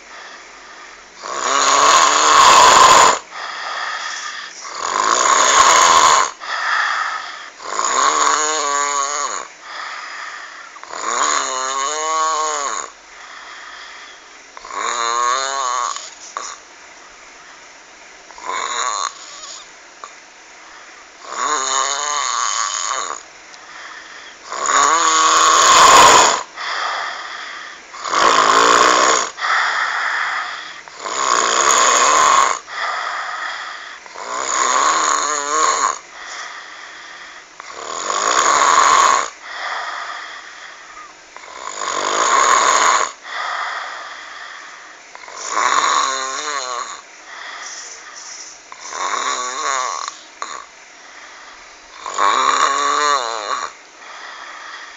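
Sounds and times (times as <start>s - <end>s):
loud snoring: 0.0s - 16.6s, 18.3s - 20.1s, 21.2s - 54.9s.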